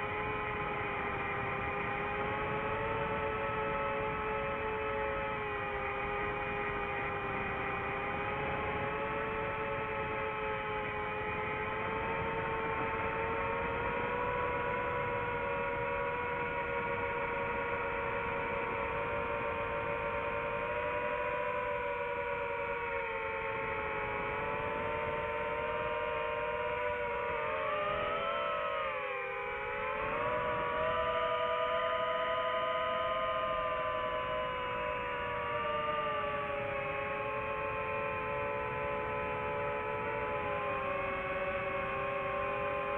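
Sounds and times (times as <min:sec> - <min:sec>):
drone propellers whining: 0:00.1 - 0:42.9.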